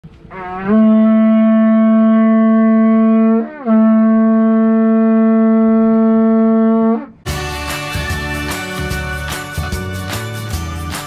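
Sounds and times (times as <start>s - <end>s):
conch-shell trumpet blowing: 0.2s - 10.6s.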